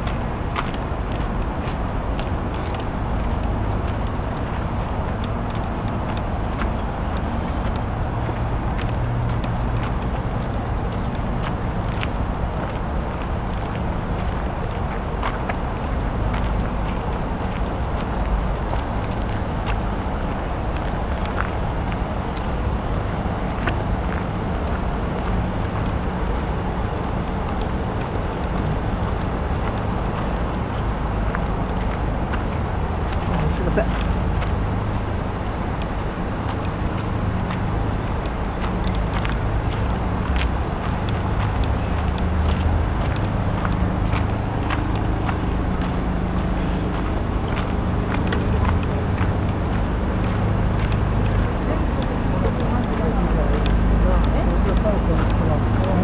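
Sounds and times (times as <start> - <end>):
city traffic rumble: 0.0 - 56.0.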